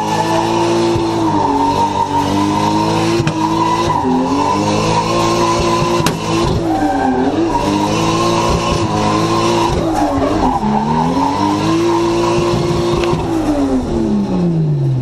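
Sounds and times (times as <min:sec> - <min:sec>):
car engine at high revs: 0:00.0 - 0:15.0
tyres skidding: 0:00.0 - 0:15.0.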